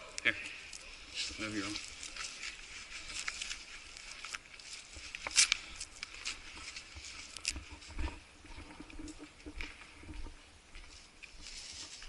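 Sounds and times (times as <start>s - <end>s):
clothing rustling against camera: 0.7s - 12.0s.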